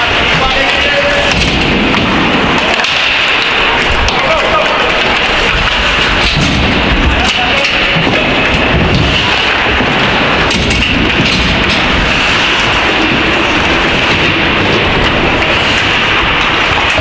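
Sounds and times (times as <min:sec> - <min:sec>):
ice hockey game noise: 0:00.0 - 0:17.0.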